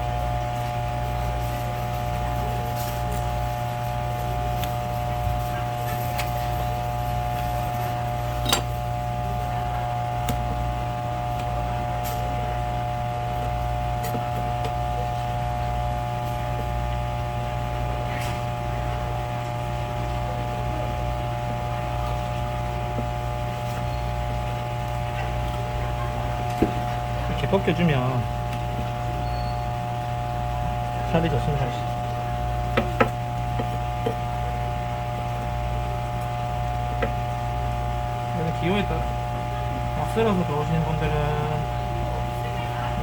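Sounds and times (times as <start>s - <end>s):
mechanical hum of equipment: 0.0s - 43.0s.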